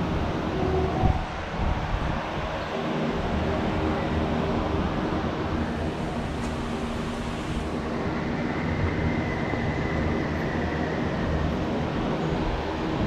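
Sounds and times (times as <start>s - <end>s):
rumbling background noise: 0.0s - 13.0s.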